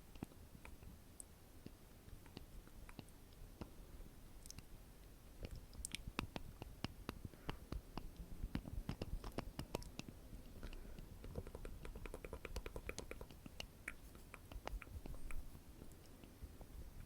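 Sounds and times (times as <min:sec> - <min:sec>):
wet mouth clicks and smacks: 0:00.2 - 0:03.7, 0:04.4 - 0:04.7, 0:05.4 - 0:16.3.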